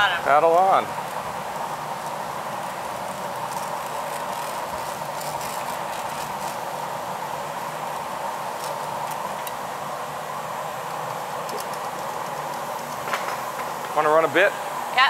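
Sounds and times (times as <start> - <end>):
gas burners and fans roaring: 0.0 - 15.0.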